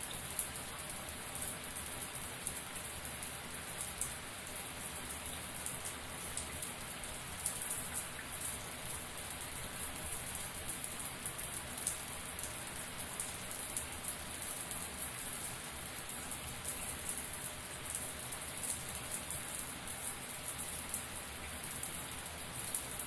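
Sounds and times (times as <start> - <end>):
shower running: 0.0 - 23.0.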